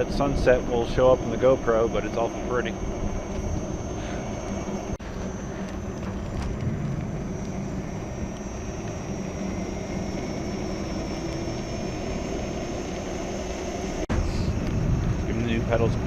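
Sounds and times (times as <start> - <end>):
faint high-pitched whine: 0.0 - 16.0
wind buffeting microphone: 0.0 - 16.0.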